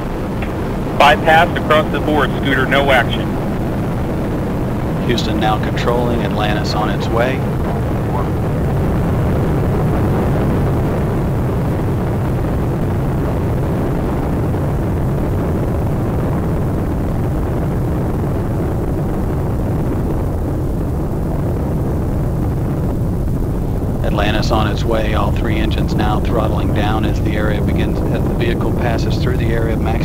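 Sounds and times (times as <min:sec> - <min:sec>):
rocket exhaust low rumble: 0:00.0 - 0:30.0.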